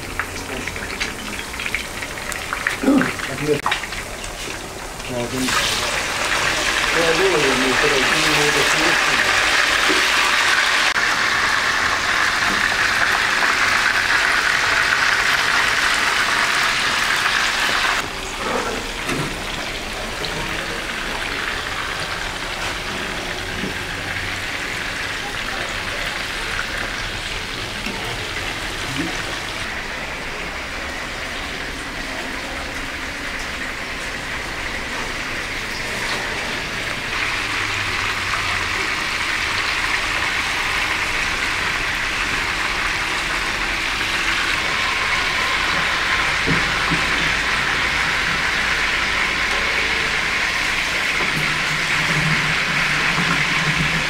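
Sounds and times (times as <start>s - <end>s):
potato wedges sizzling in oil: 0.0s - 54.0s.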